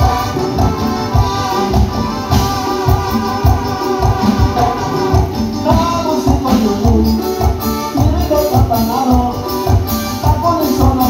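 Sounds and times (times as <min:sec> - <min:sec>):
keyboard melody: 0:00.0 - 0:11.0
percussion ticking: 0:00.0 - 0:11.0.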